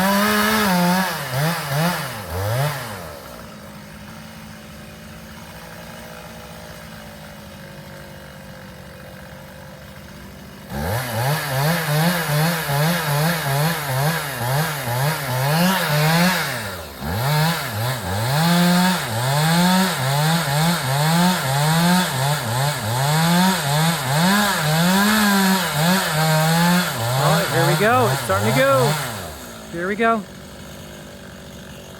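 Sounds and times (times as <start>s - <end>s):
chainsaw cutting into tree trunk: 0.0s - 31.9s.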